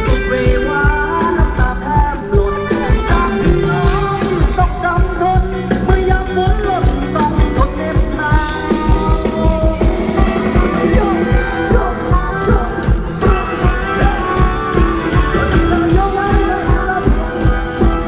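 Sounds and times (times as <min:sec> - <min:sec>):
person singing: 0:00.0 - 0:18.0
steady drum beat: 0:00.0 - 0:18.0.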